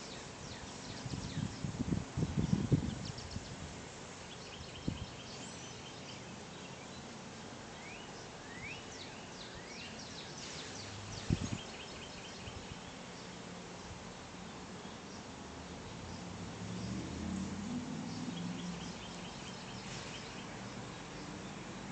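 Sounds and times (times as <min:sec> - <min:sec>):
songbirds chirping: 0:00.0 - 0:21.9.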